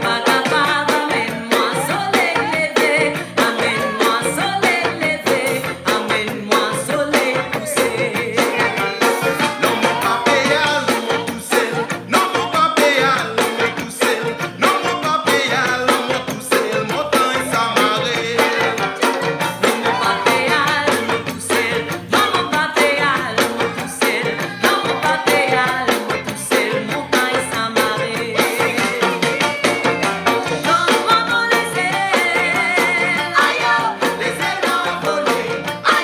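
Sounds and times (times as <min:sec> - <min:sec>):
background music with percussion: 0:00.0 - 0:36.0.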